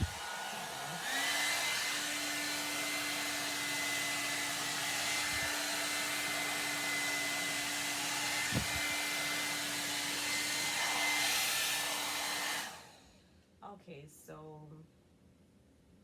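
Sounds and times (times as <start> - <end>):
hair dryer blowing: 0.0 - 13.1.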